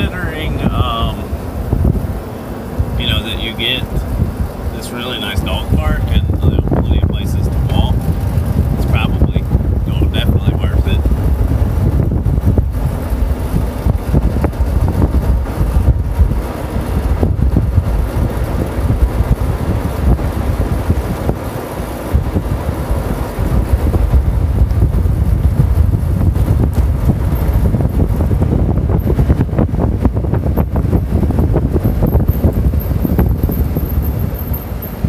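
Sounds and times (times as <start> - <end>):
golf cart rumble: 0.0 - 35.0
wind buffeting microphone: 0.0 - 35.0.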